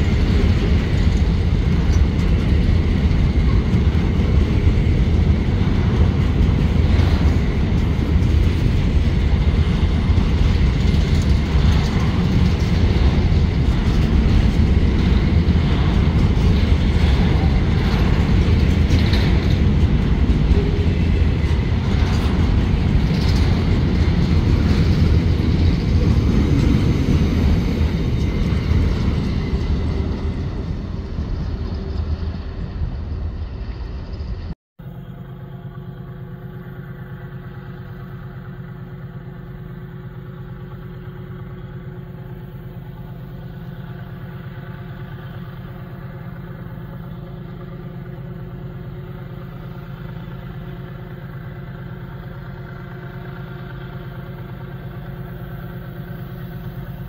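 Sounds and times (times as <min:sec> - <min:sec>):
distant diesel locomotive hum: 0:00.0 - 0:57.0
freight train rolling past: 0:00.0 - 0:57.0.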